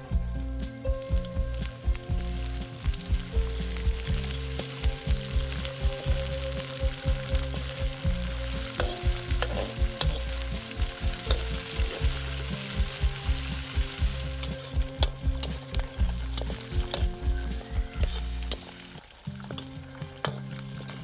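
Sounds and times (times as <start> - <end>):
background music: 0.0 - 21.0
food sizzling in oil in a wok: 0.0 - 21.0.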